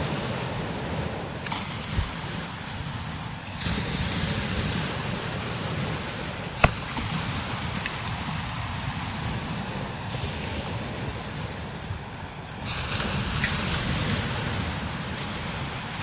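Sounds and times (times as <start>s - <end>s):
strong wind hissing over sand: 0.0s - 16.0s
wind buffeting microphone: 0.0s - 16.0s.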